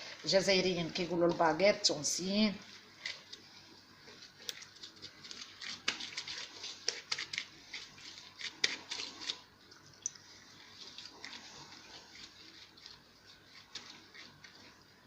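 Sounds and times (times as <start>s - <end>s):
hands shaping sticky dough: 0.0s - 15.0s.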